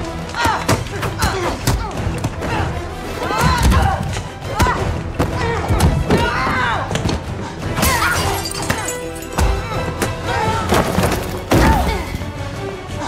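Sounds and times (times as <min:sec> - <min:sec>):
film score music: 0:00.0 - 0:13.0.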